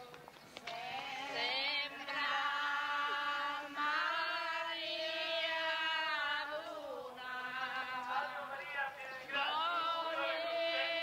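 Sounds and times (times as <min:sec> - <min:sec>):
group of women singing a hymn: 0:00.0 - 0:11.0.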